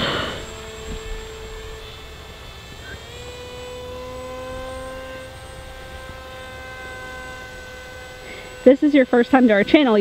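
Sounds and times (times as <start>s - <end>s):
electric motor and propeller whining: 0.0s - 10.0s.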